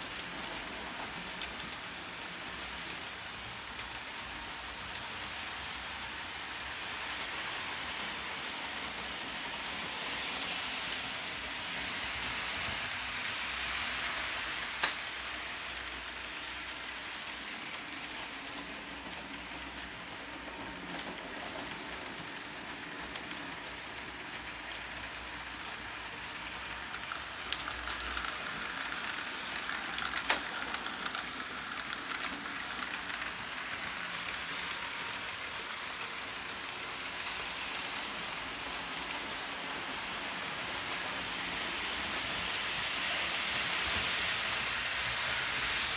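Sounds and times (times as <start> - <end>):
model trains running on track: 0.0 - 45.9.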